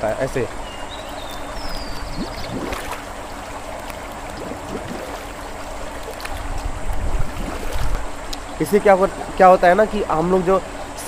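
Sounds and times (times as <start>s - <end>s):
pool water sloshing and gurgling: 1.0s - 11.0s.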